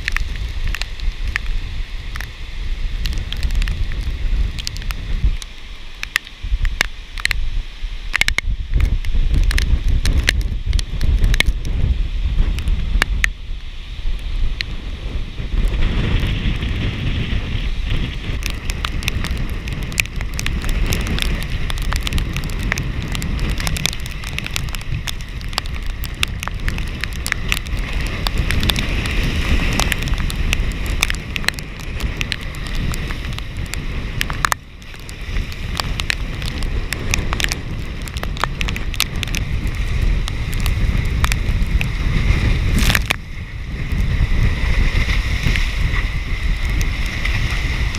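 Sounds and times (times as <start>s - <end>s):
raindrops ticking: 0.0s - 7.4s, 8.1s - 14.8s, 17.9s - 47.9s
rain hiss: 0.0s - 47.9s
wind gusting on microphone: 0.0s - 47.9s.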